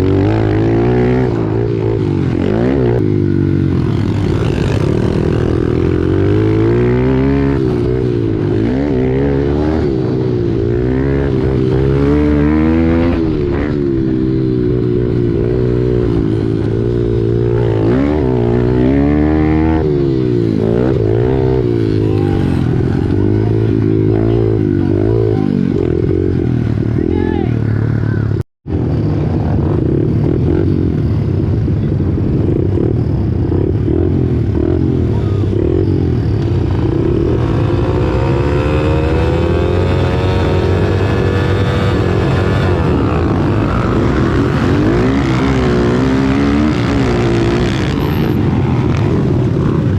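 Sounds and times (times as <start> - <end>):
pit bike engines racing: 0.0 - 49.9.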